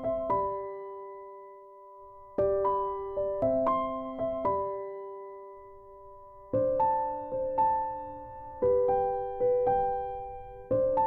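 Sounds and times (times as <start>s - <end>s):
piano keyboard notes and chord: 0.0s - 11.0s.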